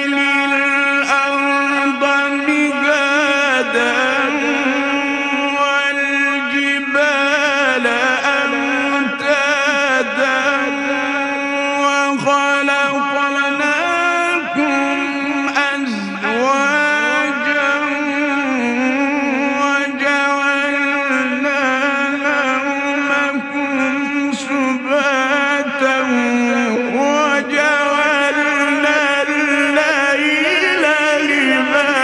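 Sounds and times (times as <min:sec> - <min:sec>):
man reciting melodically: 0:00.0 - 0:32.0.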